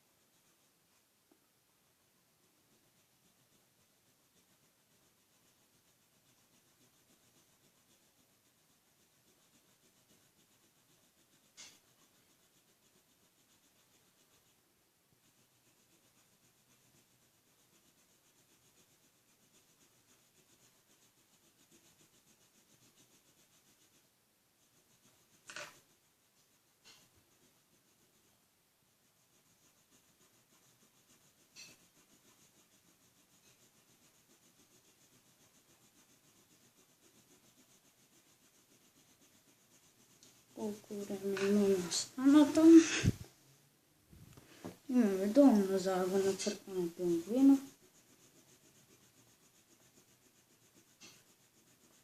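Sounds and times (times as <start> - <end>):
marker rubbing on paper: 0.0 - 43.3, 44.2 - 52.0.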